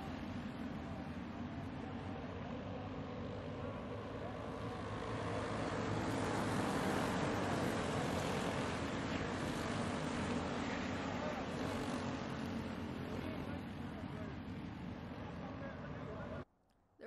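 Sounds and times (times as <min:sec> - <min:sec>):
racing kart engines: 0:00.0 - 0:16.4.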